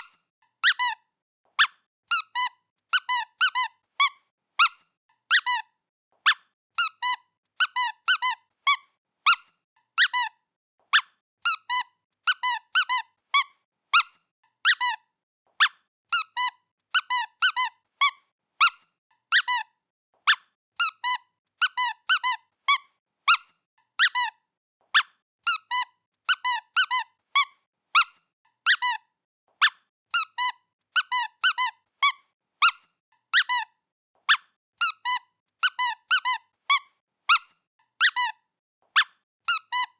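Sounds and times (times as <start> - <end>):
squeaky cat toy squeaking: 0.0 - 39.9.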